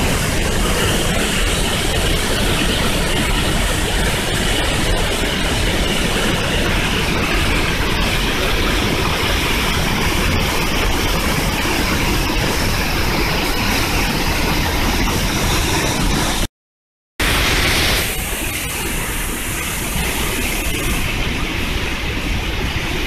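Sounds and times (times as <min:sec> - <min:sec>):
waterfall rushing: 0:00.0 - 0:16.5, 0:17.2 - 0:23.0.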